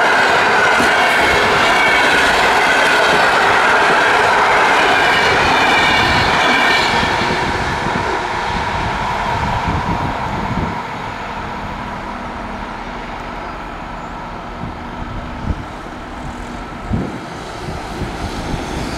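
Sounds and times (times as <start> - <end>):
train rumble: 0.0 - 18.9.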